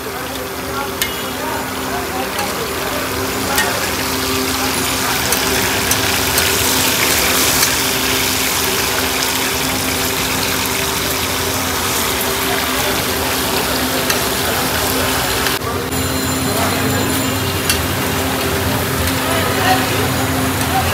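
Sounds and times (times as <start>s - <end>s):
food sizzling in hot oil: 0.2s - 20.8s.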